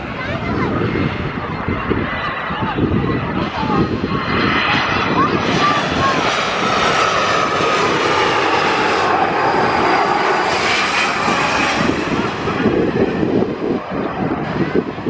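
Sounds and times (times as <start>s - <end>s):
jet airliner engines passing: 0.0s - 15.0s.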